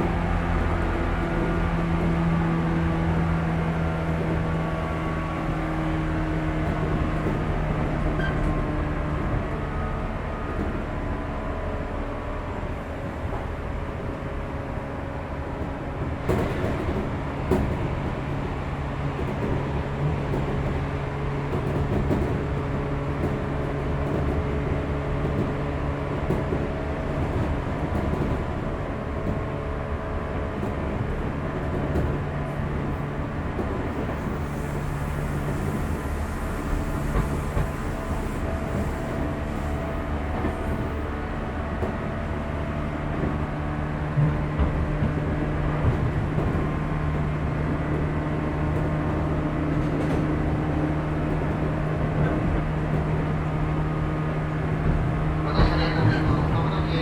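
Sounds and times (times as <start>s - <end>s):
rumbling rail noise: 0.0s - 57.0s.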